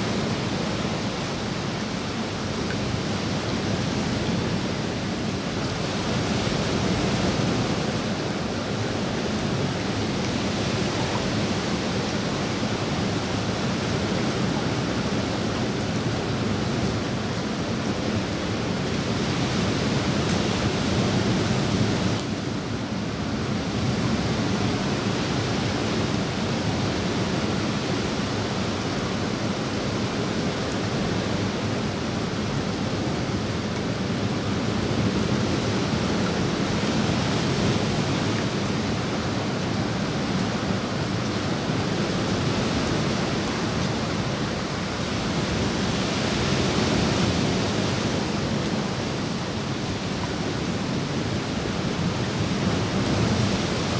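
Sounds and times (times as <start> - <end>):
rain falling on pool: 0.0 - 53.9.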